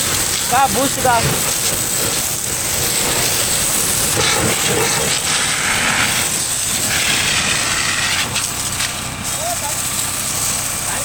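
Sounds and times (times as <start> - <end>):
water jet hissing: 0.0 - 11.0.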